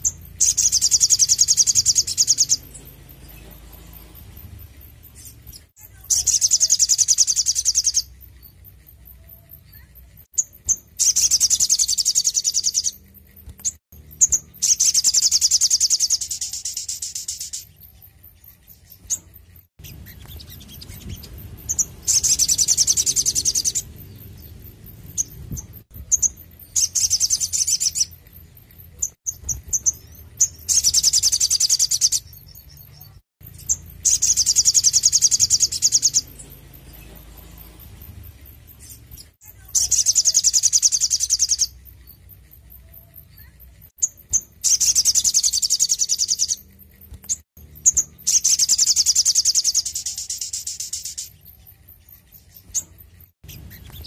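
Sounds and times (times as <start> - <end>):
bird chips: 0.0 - 54.0
bird singing high trills: 0.0 - 54.0.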